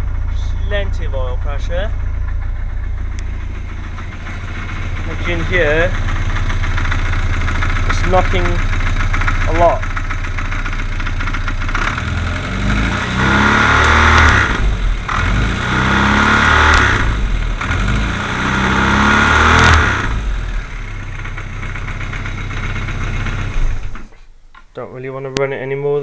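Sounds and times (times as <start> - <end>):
engine knocking: 0.0 - 24.2
car engine idling and revving: 0.0 - 24.3.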